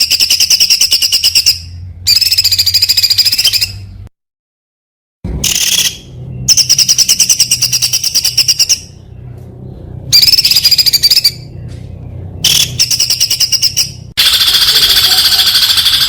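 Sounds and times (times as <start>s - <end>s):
songbird singing rapid notes: 0.0s - 4.1s, 5.4s - 16.0s.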